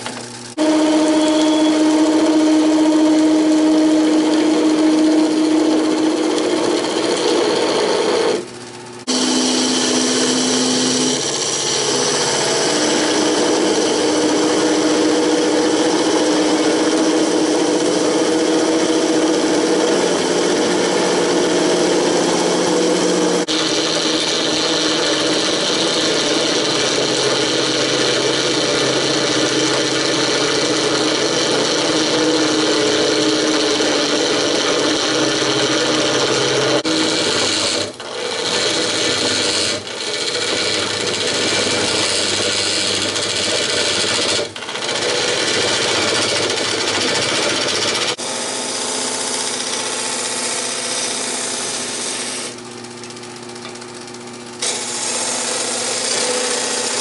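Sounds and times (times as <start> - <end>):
lathe motor hum: 0.0 - 57.0.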